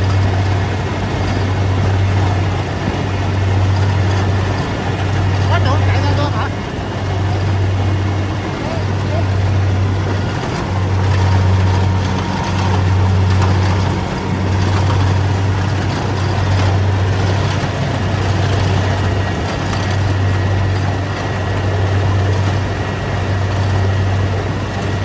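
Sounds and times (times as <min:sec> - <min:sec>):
harvester engine drone: 0:00.0 - 0:25.0
threshing machinery rushing: 0:00.0 - 0:25.0.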